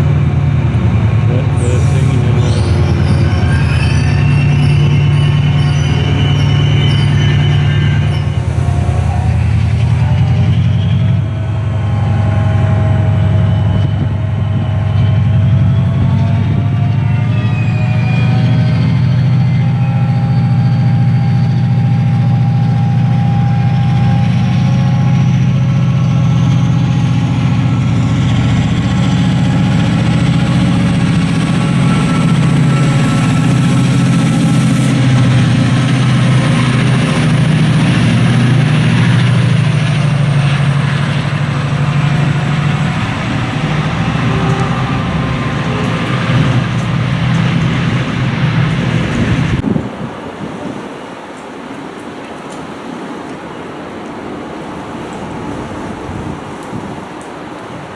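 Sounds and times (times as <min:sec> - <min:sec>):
diesel train engine idling: 0:00.0 - 0:49.6.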